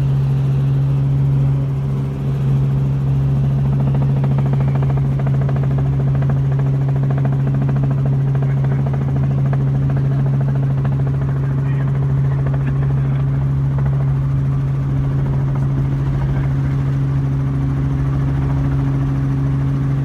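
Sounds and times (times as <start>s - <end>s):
helicopter rotor hum inside cabin: 0.0s - 20.0s.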